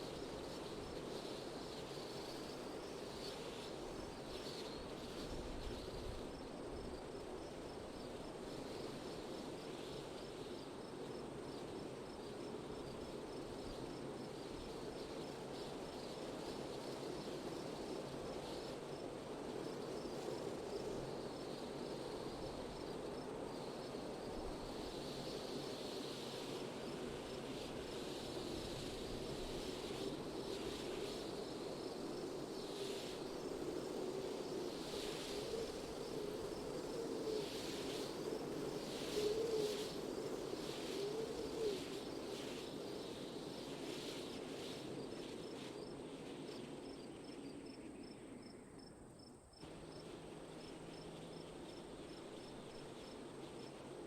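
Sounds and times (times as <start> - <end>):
steady wind noise: 0.0 - 48.8
insects chirping: 1.3 - 54.0.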